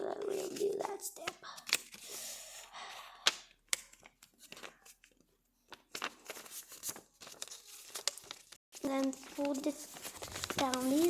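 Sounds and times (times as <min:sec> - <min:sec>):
paper crinkling and creasing: 0:00.0 - 0:02.7, 0:03.9 - 0:11.0.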